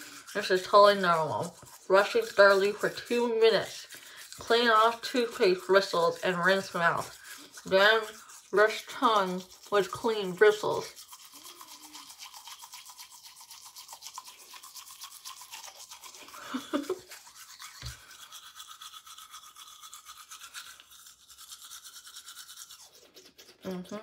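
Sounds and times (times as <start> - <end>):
toothbrush scrubbing teeth: 0.0 - 24.0.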